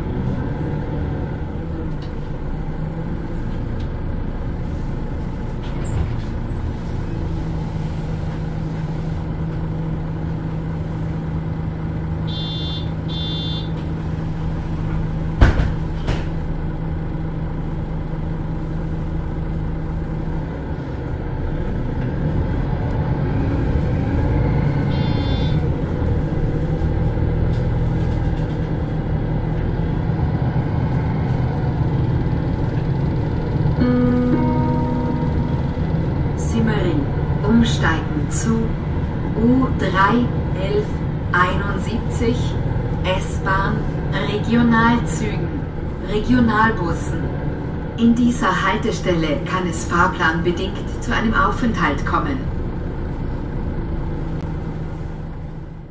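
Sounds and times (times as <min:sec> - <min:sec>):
bus engine humming: 0:00.0 - 0:55.9.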